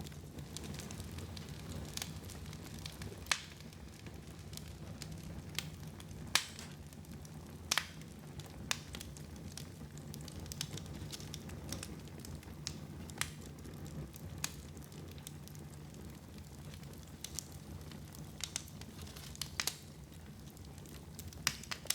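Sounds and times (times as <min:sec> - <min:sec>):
fire crackling and popping: 0:00.0 - 0:21.9
fire low rumble: 0:00.0 - 0:21.9.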